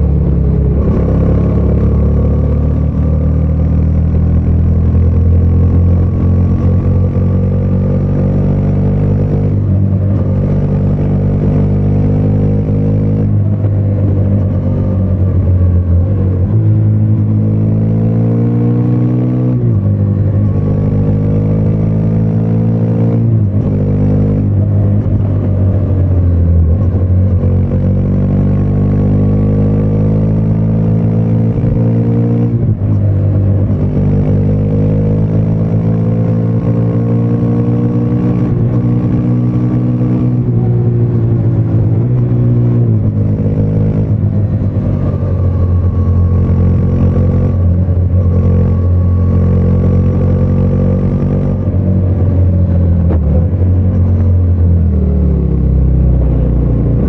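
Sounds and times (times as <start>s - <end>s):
motorcycle engine accelerating hard: 0.0s - 57.0s.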